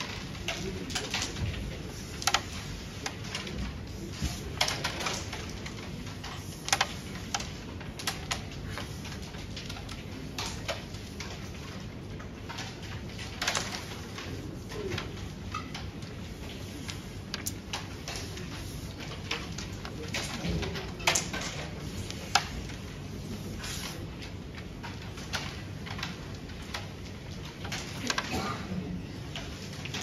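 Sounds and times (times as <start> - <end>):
wooden carrom pieces clicking: 0.0 - 28.5.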